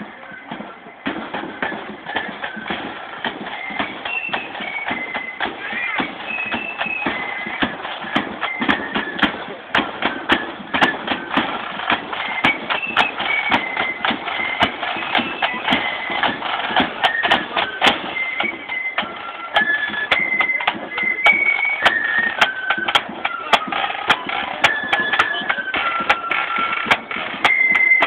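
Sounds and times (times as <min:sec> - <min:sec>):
marching band playing: 0:00.0 - 0:28.0
sharp drum strikes: 0:00.5 - 0:28.0.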